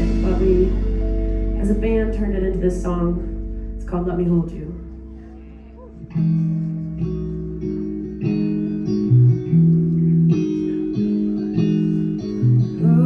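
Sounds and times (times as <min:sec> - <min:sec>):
guitar strumming chords: 0:00.0 - 0:13.0.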